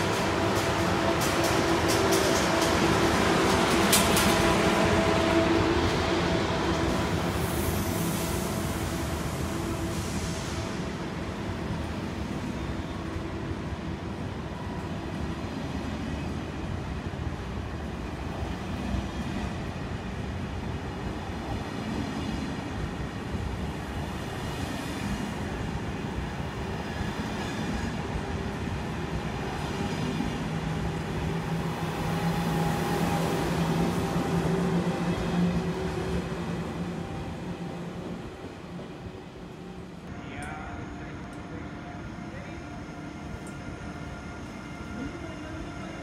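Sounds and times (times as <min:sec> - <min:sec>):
high-speed train rolling: 0:00.0 - 0:46.0.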